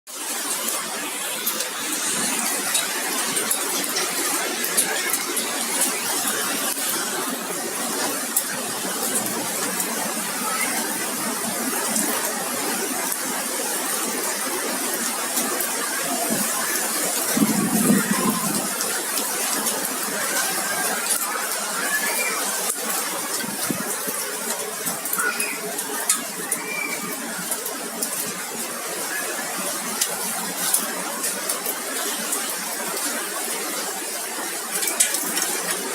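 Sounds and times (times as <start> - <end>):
rain falling: 0.1 - 35.9.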